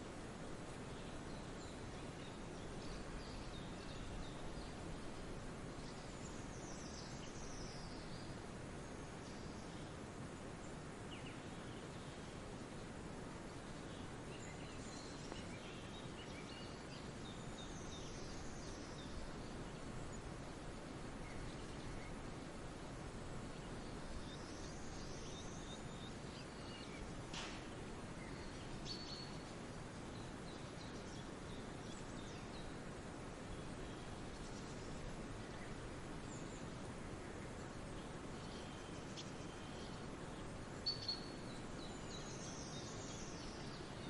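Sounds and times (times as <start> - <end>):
outdoor background hiss: 0.0 - 44.0
songbird chirps: 0.0 - 44.0.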